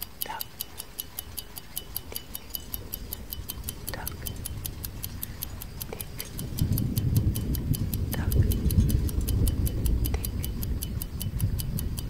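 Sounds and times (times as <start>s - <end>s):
clock ticking rapidly: 0.0s - 12.0s
low rumbling: 1.2s - 12.0s.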